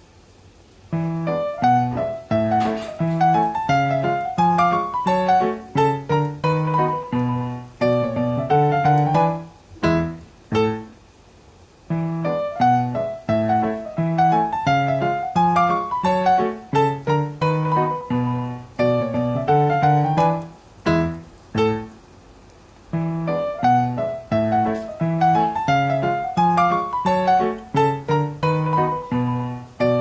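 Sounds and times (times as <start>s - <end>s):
piano music: 0.9s - 11.0s, 11.9s - 22.0s, 22.9s - 30.0s.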